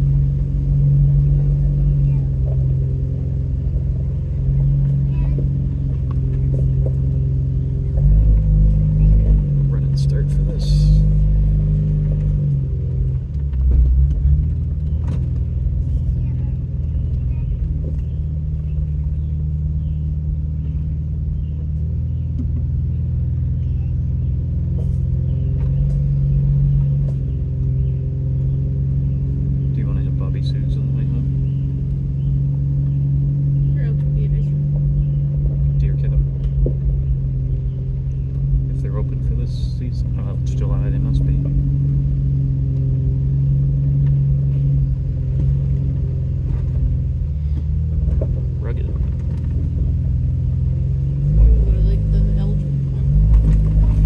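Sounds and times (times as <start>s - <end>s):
vehicle engine droning: 0.0s - 54.0s.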